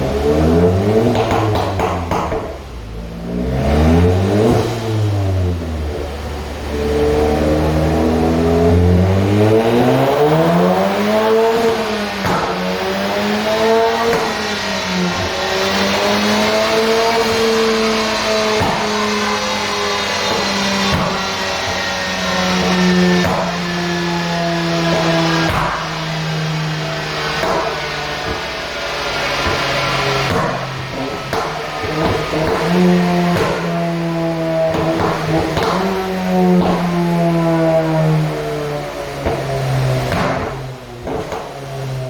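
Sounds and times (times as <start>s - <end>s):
car engine revving: 0.0s - 42.0s
exhaust cracks: 0.0s - 42.0s.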